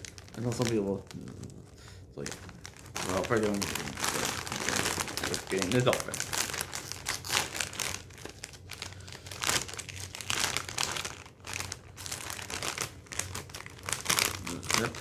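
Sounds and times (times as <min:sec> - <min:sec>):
snack bag crinkling: 0:00.0 - 0:15.0.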